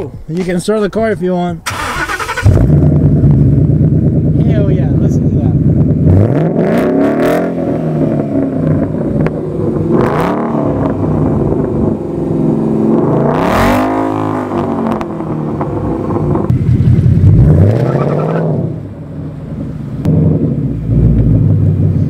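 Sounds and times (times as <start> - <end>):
car engine revving: 1.7 - 22.0.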